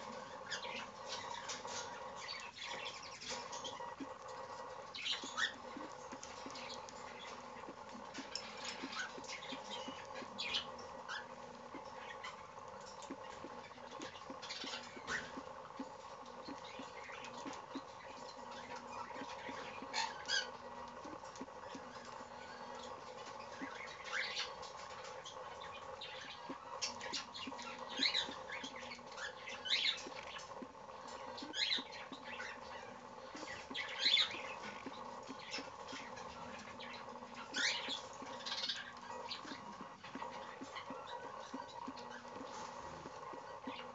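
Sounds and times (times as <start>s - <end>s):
beak clicking and tapping: 0.0s - 43.9s
faint steady hum: 0.0s - 43.9s.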